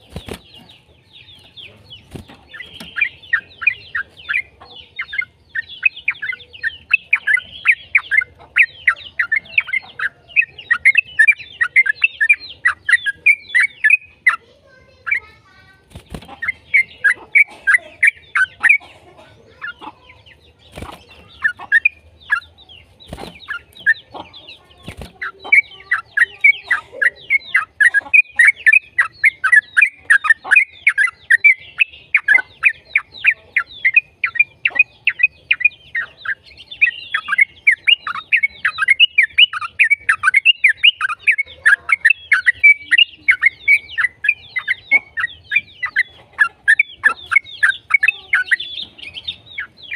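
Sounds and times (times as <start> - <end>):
bird chattering song: 0.0 - 49.9.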